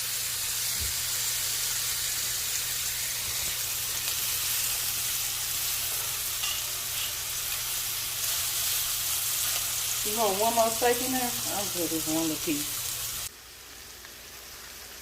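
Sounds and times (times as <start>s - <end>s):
steak sizzling in a pan: 0.0s - 15.0s.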